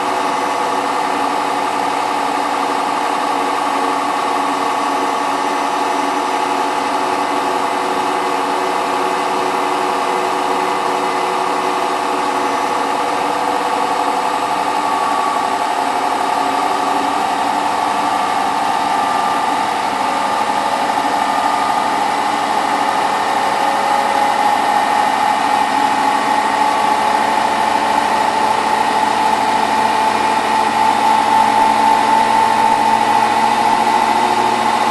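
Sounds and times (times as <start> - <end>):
washing machine fast spin: 0.0 - 34.9.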